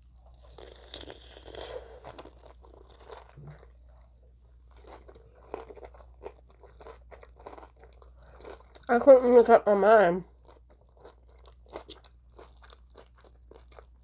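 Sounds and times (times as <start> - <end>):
crunching of fried chicken: 0.0 - 9.2, 10.2 - 14.0
faint steady hum: 0.0 - 14.0.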